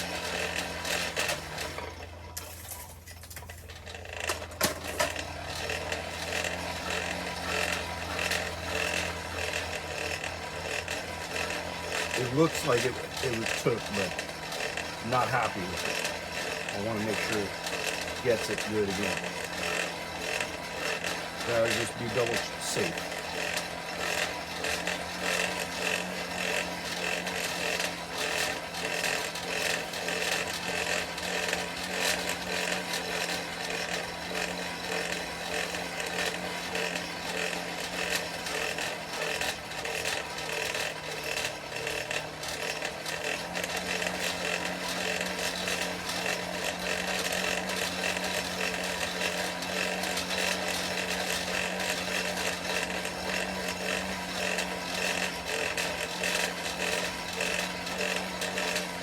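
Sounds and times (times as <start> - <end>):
forge blower humming: 0.0 - 59.0.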